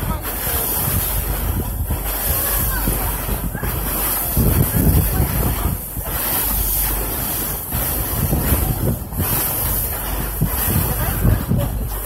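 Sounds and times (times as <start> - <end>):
sea rushing: 0.0 - 12.0
wind buffeting microphone: 0.0 - 12.0.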